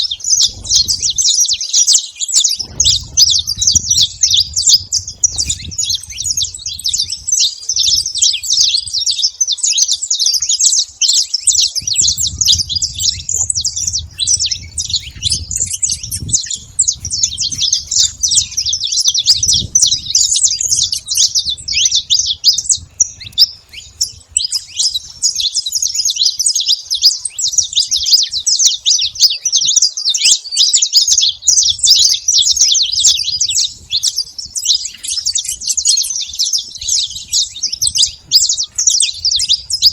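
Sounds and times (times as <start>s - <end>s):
finch singing chirps and trills: 0.0s - 39.9s.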